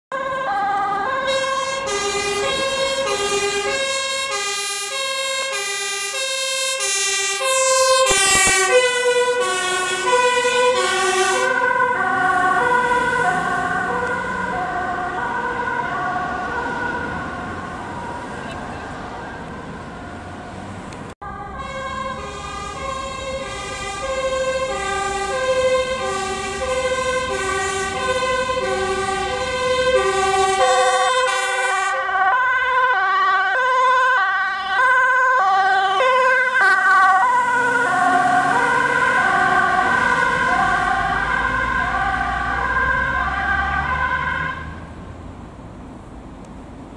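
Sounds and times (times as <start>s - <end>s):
two-tone ambulance siren: 0.1s - 45.0s.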